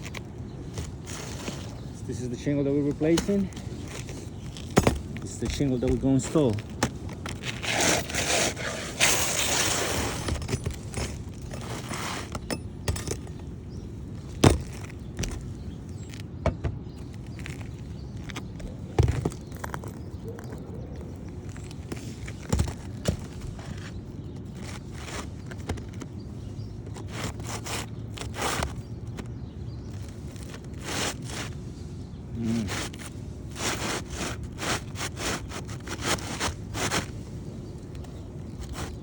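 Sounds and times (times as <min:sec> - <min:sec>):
scraping and rustling on shingles: 0:00.0 - 0:39.0.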